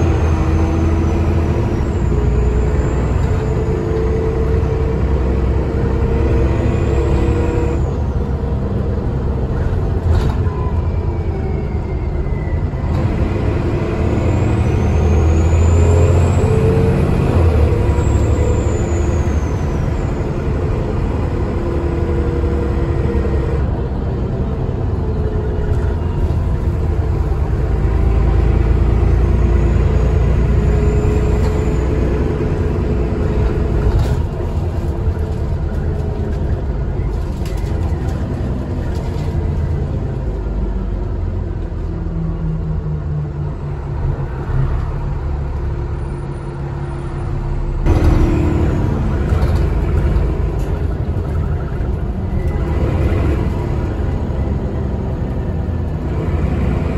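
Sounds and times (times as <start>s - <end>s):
bus diesel engine rumble: 0.0s - 56.9s.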